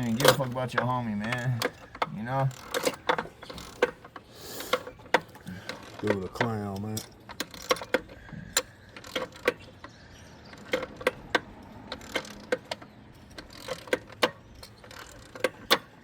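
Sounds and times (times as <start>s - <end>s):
hand ratchet clicking: 0.0s - 9.9s, 10.5s - 16.0s.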